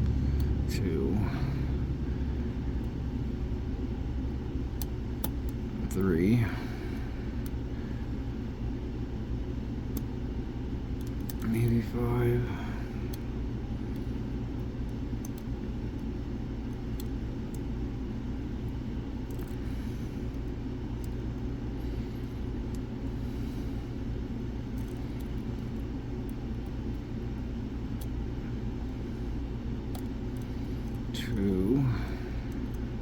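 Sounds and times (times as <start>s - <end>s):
low background rumble and hum: 0.0s - 33.0s.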